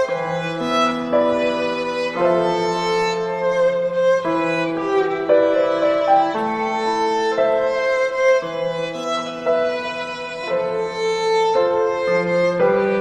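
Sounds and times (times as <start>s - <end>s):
slow instrumental music: 0.0s - 13.0s.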